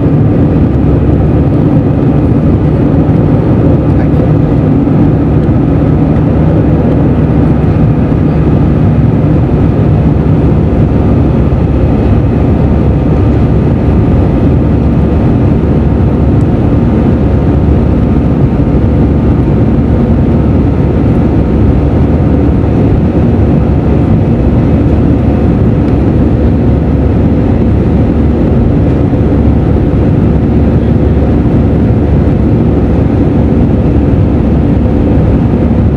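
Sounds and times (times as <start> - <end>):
jet engine cabin noise: 0.0 - 35.9.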